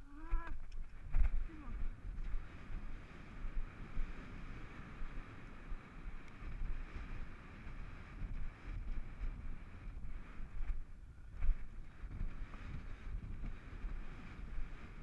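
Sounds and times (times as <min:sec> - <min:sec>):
low thumps of hooves: 0:00.0 - 0:15.0
wind on microphone: 0:00.0 - 0:15.0.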